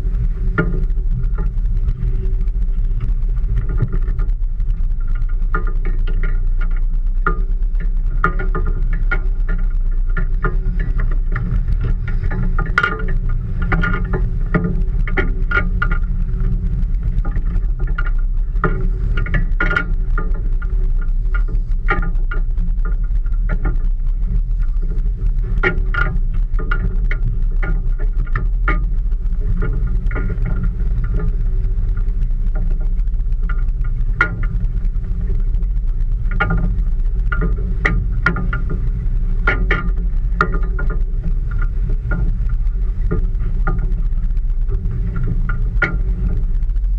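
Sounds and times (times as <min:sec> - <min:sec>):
boat motor rumble: 0:00.0 - 0:46.9
sharp clicks and rattles: 0:00.0 - 0:46.9
water: 0:00.0 - 0:46.9
wind: 0:00.0 - 0:46.9.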